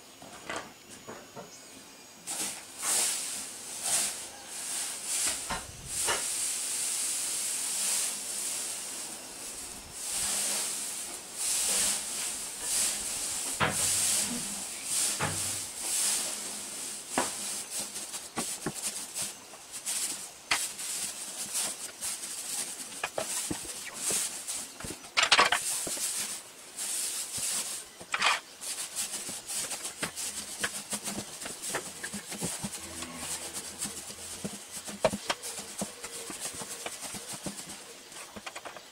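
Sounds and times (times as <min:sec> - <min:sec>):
dry hay rustling: 0:02.3 - 0:38.9.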